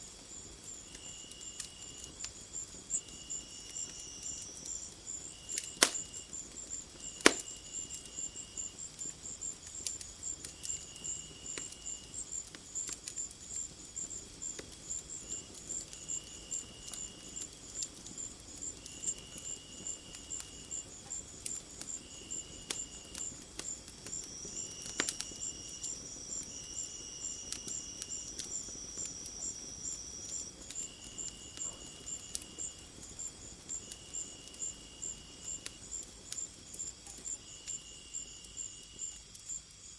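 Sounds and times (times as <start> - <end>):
crickets chirping: 0.0 - 39.9
fire popping: 0.0 - 39.9
lower insect trill: 0.0 - 39.9
wood fire crackling: 0.0 - 39.9.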